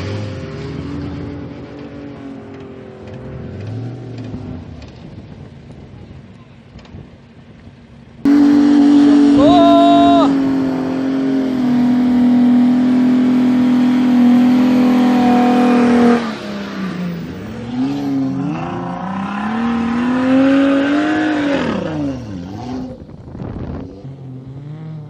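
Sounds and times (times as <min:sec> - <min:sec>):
off-road vehicle engine revving: 0:00.0 - 0:05.1, 0:08.2 - 0:25.0.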